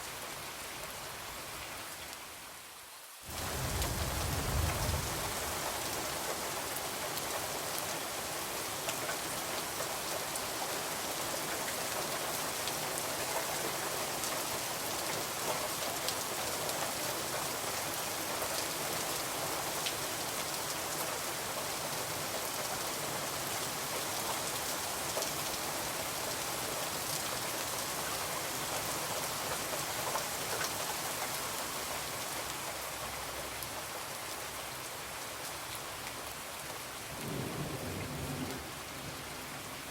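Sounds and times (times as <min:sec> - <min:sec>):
rain on a window: 0:01.9 - 0:39.9.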